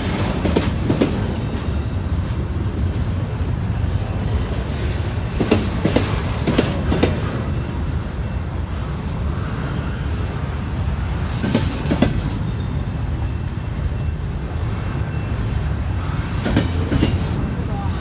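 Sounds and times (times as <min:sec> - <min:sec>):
train cars rumbling past: 0:00.0 - 0:18.0.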